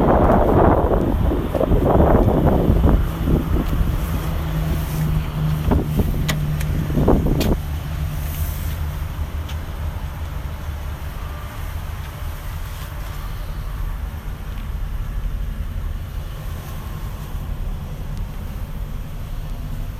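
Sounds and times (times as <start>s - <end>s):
van engine idling: 0.0s - 19.9s.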